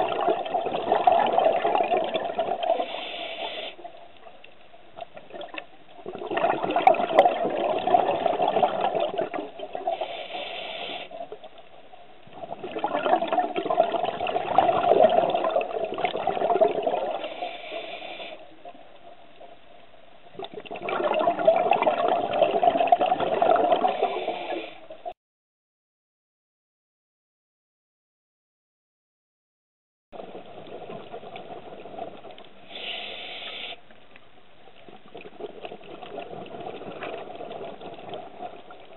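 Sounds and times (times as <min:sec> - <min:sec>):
underwater exhaust bubbles: 0:00.0 - 0:19.6, 0:20.2 - 0:25.1, 0:30.2 - 0:38.9.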